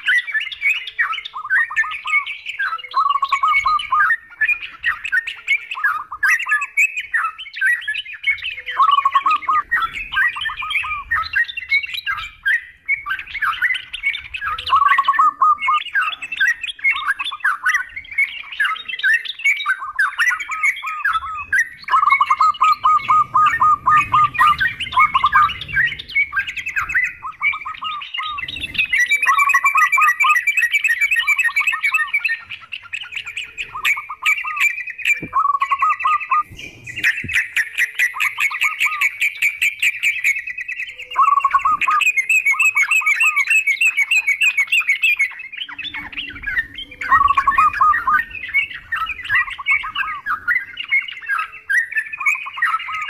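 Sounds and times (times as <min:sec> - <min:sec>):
bulbuls calling: 0:00.0 - 0:53.0
doves calling: 0:00.0 - 0:53.0.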